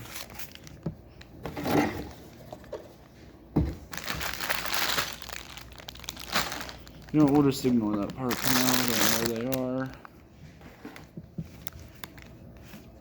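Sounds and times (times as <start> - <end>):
plastic rustling: 0.0 - 13.0.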